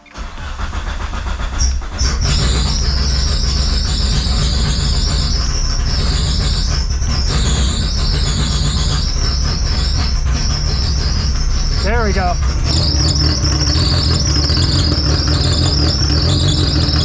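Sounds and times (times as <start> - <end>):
car engine running: 0.0 - 17.0
high-pitched wavering squeal: 1.6 - 17.0.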